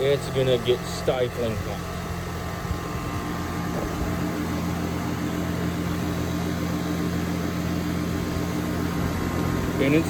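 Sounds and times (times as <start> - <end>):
air conditioner compressor hum: 0.0 - 10.0
condenser fan whoosh: 0.0 - 10.0.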